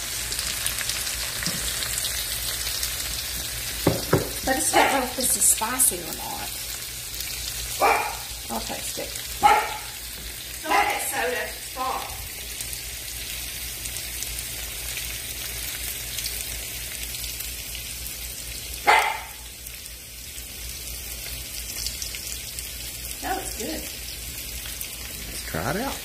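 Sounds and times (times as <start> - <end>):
butter sizzling in a skillet: 0.0 - 26.0.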